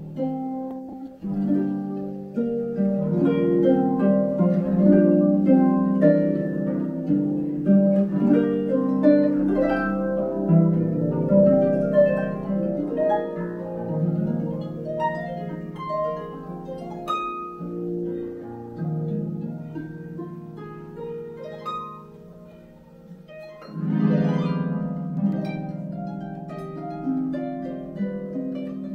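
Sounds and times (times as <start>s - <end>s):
solo harp playing: 0.0s - 28.9s.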